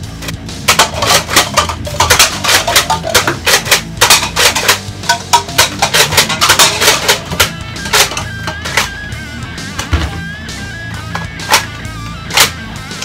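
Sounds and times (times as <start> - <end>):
background guitar music: 0.0 - 13.0.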